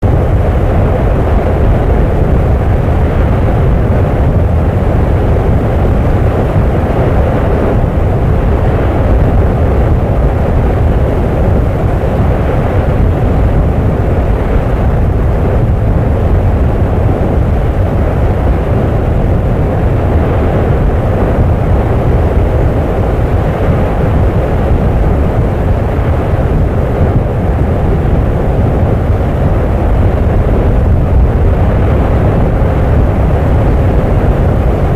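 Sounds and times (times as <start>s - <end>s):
volcanic eruption deep rumble: 0.0s - 34.9s.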